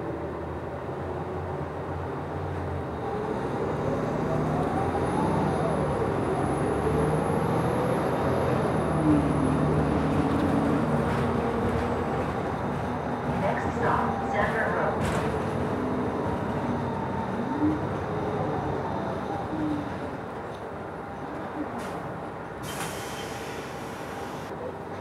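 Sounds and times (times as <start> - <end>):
bus engine running: 0.0 - 25.0
road noise: 0.0 - 25.0.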